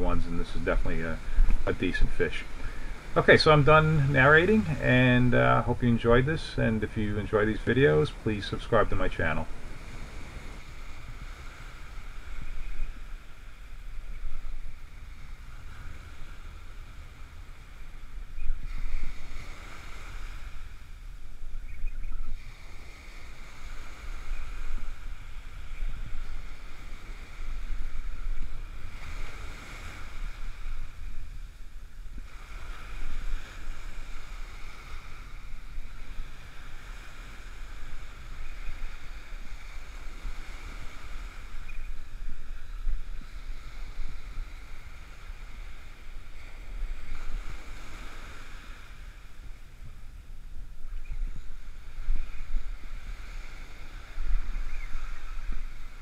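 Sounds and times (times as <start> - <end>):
ocean surf breaking on sand: 0.0 - 56.0
wind buffeting microphone: 0.0 - 56.0.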